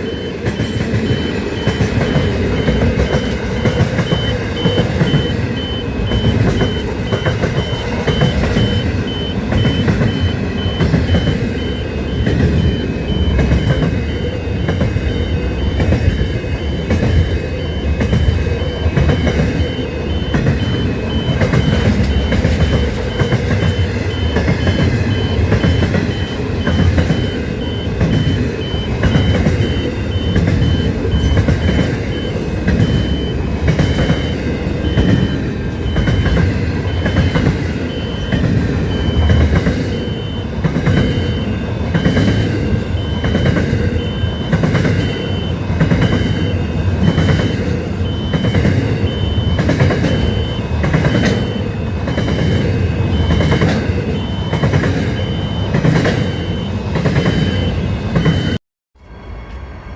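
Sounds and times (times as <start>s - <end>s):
repeating high-pitched beep: 0.0s - 58.6s
train rumbling past: 0.0s - 59.9s.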